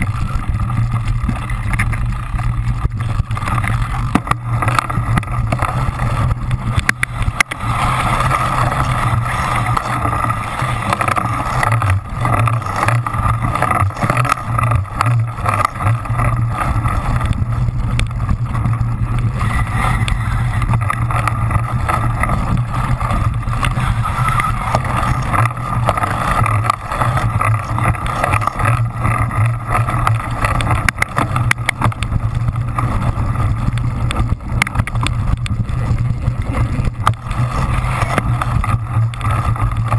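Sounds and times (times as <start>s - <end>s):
bike frame rattling: 0.0s - 39.9s
bike tyres churning sand: 0.0s - 39.9s.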